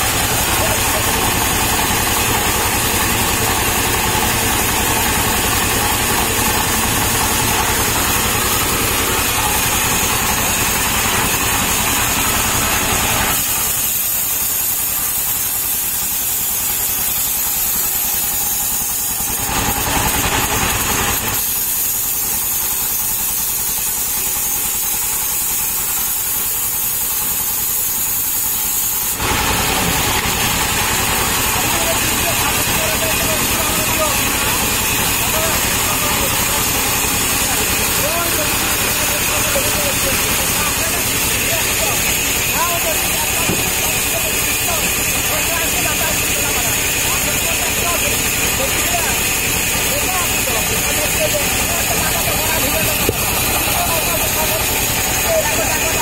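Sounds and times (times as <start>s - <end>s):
band saw cutting wood: 0.0s - 56.0s
stationary engine running: 0.0s - 56.0s.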